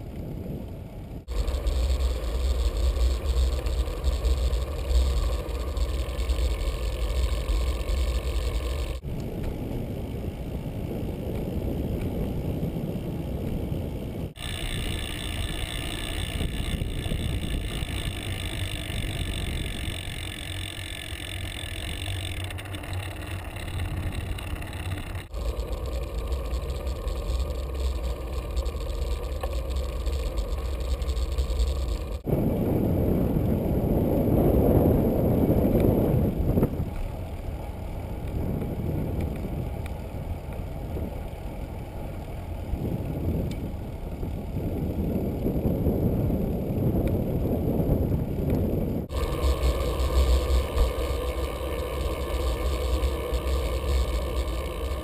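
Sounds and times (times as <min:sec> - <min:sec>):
wind and road rumble: 0:00.0 - 0:55.0.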